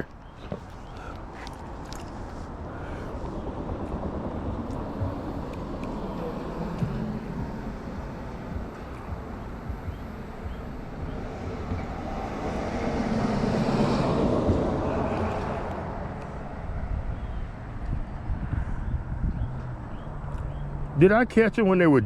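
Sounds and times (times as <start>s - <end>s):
vehicle passing: 0.0s - 22.0s.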